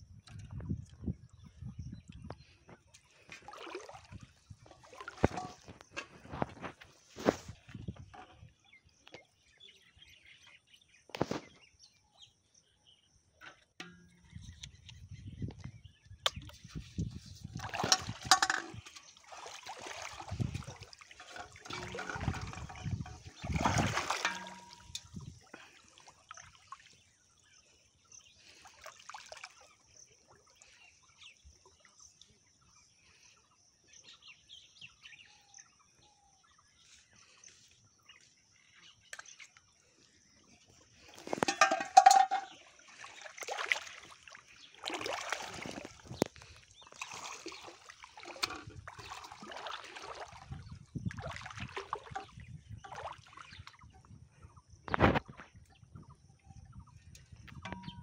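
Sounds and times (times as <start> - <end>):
water splashing and sloshing: 0.0 - 9.8, 13.4 - 33.4, 36.8 - 58.0.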